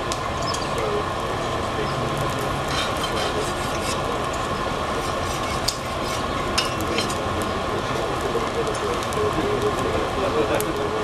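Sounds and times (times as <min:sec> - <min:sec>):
fire crackling: 0:00.0 - 0:11.0
forge fire hissing: 0:00.0 - 0:11.0.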